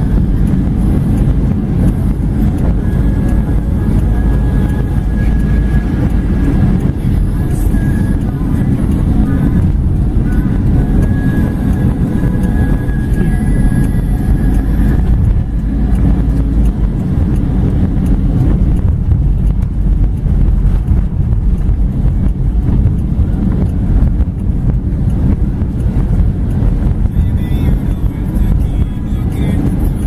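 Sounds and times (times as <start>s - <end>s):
car tyres rumbling on wet road: 0.0s - 30.0s
storm outside: 0.0s - 30.0s.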